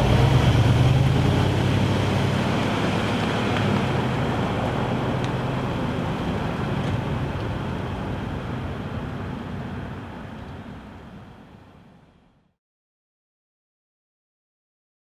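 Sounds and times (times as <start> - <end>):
vehicle engine and road noise: 0.0 - 12.5.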